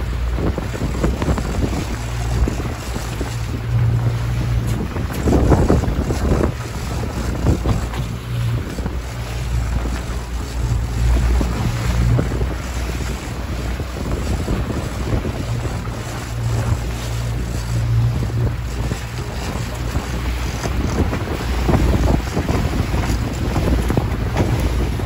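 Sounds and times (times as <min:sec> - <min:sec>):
outboard motor humming: 0:00.0 - 0:25.0
wake water rushing: 0:00.0 - 0:25.0
wind buffeting microphone: 0:00.0 - 0:25.0.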